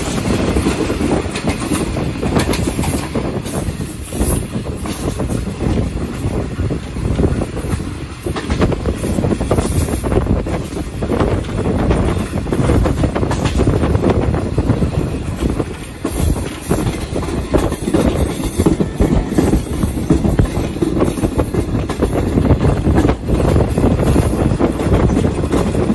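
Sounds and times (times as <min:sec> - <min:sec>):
train wheels clattering: 0:00.0 - 0:25.9.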